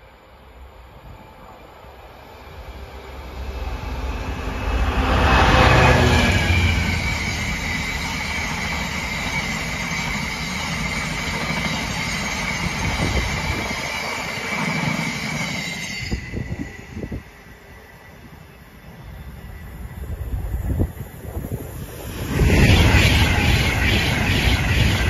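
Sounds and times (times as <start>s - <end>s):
diesel locomotive engine: 0.0s - 25.0s
high whine from wheels: 2.0s - 25.0s.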